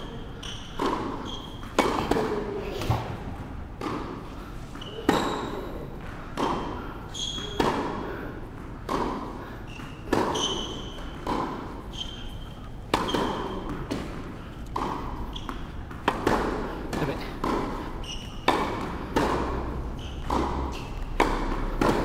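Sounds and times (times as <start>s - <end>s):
tennis racket hitting ball: 0.0s - 4.3s, 6.3s - 22.0s
tennis ball bouncing on court: 0.4s - 22.0s.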